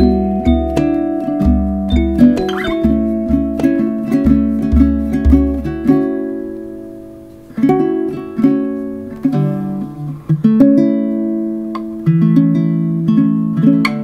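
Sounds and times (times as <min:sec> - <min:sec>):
plucked acoustic guitar chords: 0:00.0 - 0:14.0.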